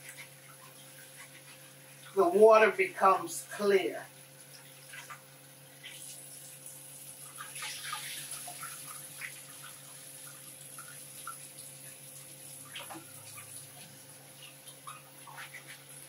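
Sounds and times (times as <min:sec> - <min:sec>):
tap water running and splashing: 0:00.0 - 0:16.0.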